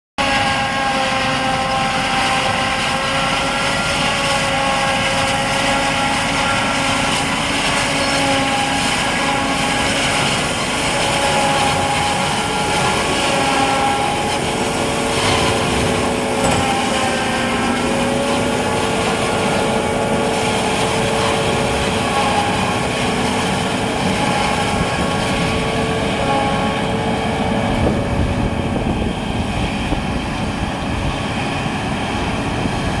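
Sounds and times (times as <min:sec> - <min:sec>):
harvester machine hum: 0:00.2 - 0:33.0.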